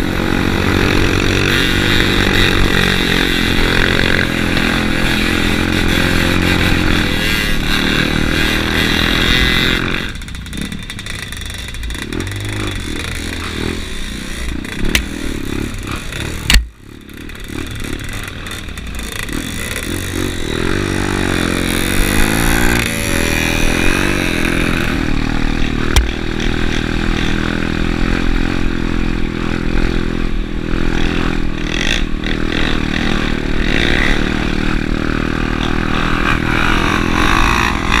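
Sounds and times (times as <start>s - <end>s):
dirt bike engine running: 0.0s - 38.0s.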